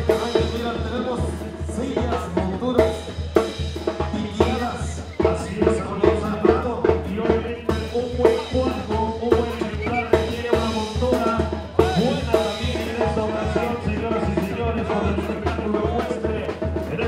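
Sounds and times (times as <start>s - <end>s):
brass band with drums: 0.0s - 17.0s.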